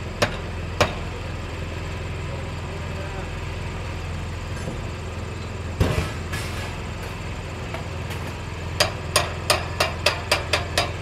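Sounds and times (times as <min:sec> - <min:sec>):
low engine idle: 0:00.0 - 0:11.0.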